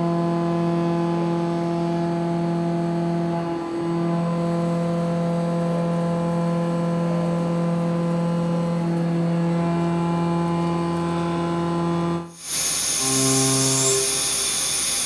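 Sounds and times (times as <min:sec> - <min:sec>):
milling cutter humming on steel: 0:00.0 - 0:15.0.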